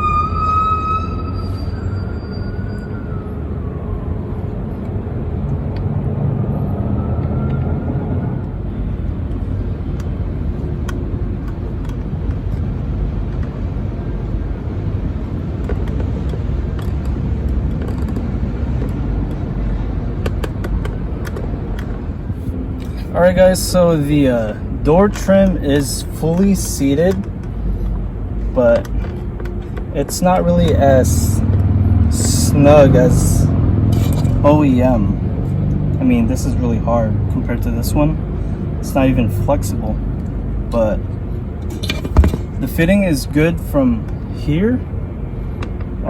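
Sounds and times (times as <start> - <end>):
low rumble of outdoor noise: 0.0 - 46.0.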